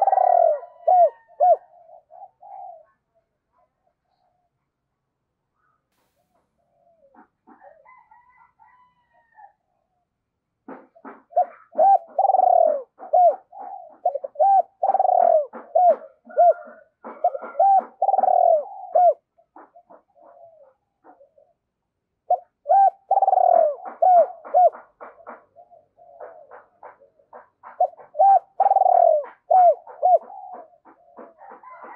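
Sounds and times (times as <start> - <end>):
dove cooing: 0.0 - 3.0, 6.5 - 8.8, 10.7 - 31.9.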